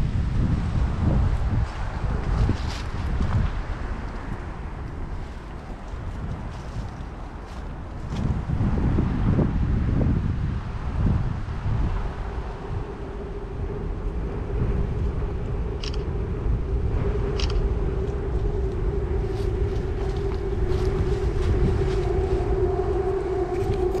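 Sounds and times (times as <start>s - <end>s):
steady mechanical hum: 0.0s - 24.0s
wind rumbling on microphone: 0.0s - 24.0s.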